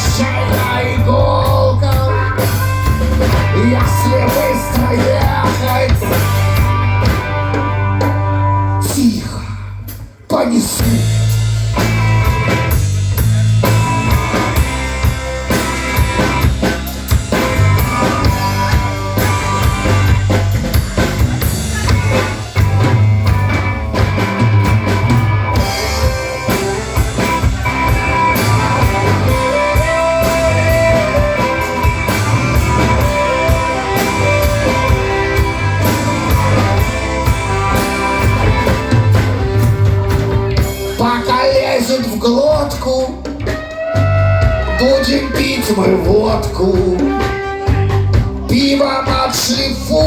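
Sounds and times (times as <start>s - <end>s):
electric guitar playing: 0.0s - 9.1s, 11.0s - 42.3s
bass guitar: 0.0s - 50.0s
rock drum kit: 0.0s - 50.0s.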